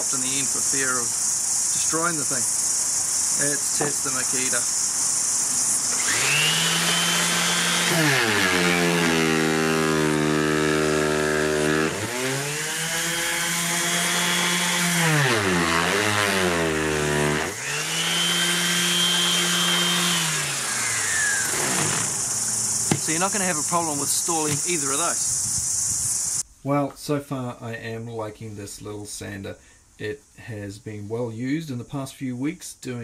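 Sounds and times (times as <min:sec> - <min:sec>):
orbit sander motor whine: 0:00.0 - 0:26.4.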